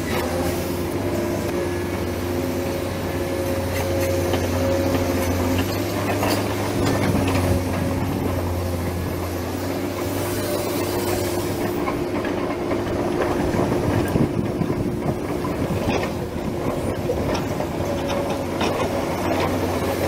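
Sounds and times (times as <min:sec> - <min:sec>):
model excavator motors humming: 0:00.0 - 0:20.0.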